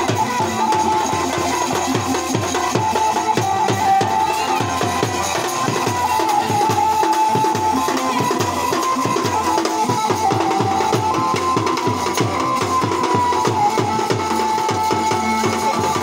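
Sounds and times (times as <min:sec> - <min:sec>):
metal percussion: 0:00.0 - 0:16.0.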